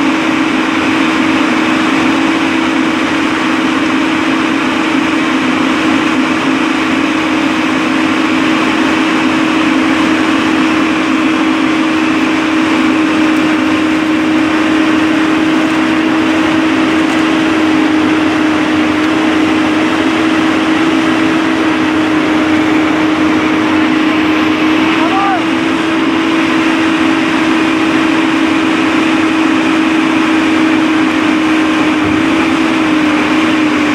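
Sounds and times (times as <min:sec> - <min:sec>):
large engine droning: 0:00.0 - 0:33.9.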